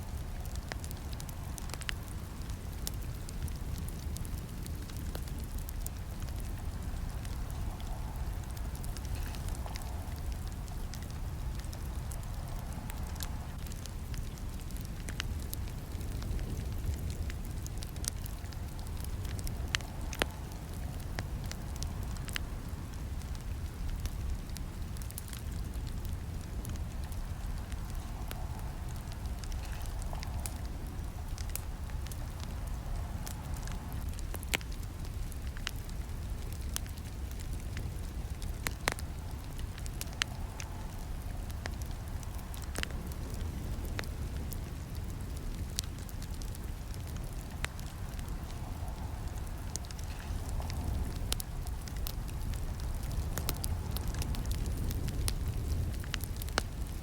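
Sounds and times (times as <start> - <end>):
fire flames rumbling: 0.0 - 57.0
wood crackling and popping: 0.0 - 57.0.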